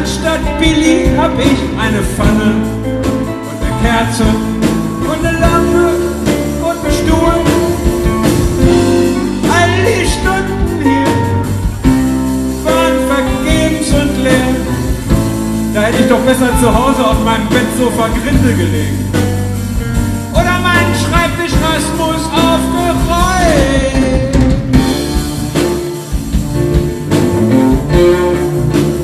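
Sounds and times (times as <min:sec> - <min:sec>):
man singing lead: 0:00.0 - 0:11.8, 0:12.6 - 0:19.4, 0:20.3 - 0:25.1
live band playing: 0:00.0 - 0:29.0.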